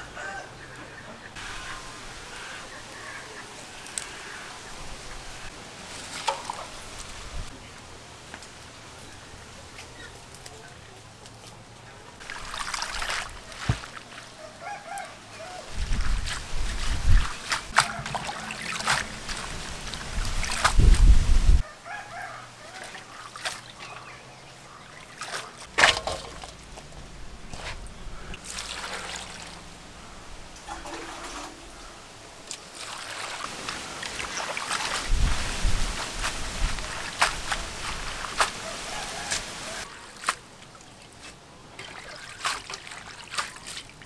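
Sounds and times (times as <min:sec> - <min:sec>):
water sloshing and splashing: 0:01.4 - 0:07.5, 0:12.2 - 0:14.4, 0:15.7 - 0:21.6, 0:22.6 - 0:44.0.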